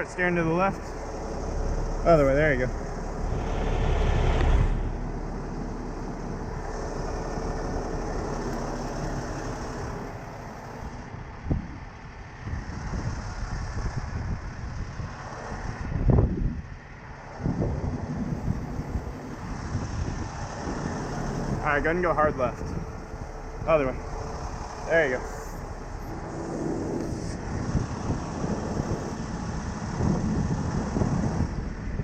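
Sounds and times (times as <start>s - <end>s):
heavy truck engine running: 0.0s - 32.0s.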